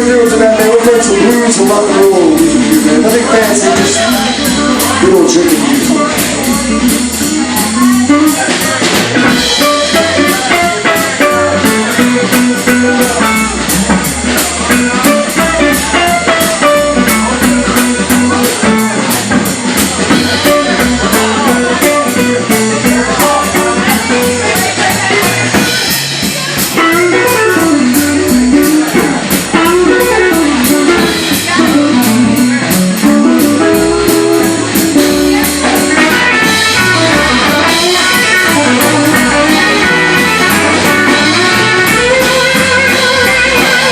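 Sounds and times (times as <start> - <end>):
blues rock band playing: 0.0 - 43.9
drum kit steady beat: 0.0 - 43.9
electric guitar: 0.0 - 43.9.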